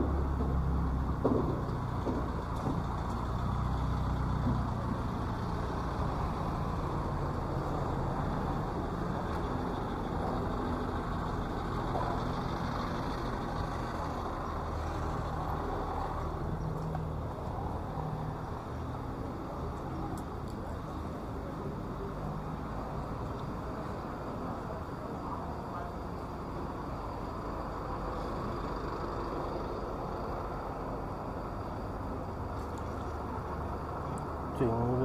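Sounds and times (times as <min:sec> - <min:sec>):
low engine hum: 0:00.0 - 0:35.0
vehicle engines running: 0:00.0 - 0:35.0.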